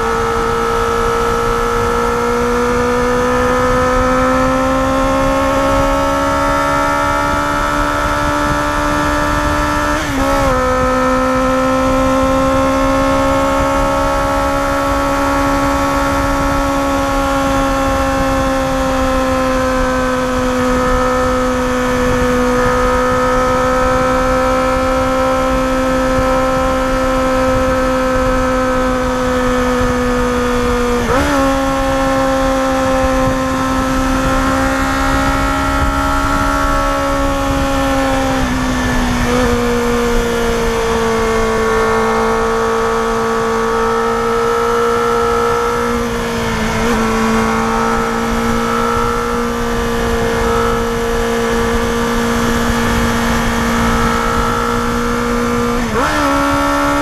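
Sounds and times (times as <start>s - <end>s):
motorcycle engine at high revs: 0.0s - 57.0s
wind rush: 0.0s - 57.0s.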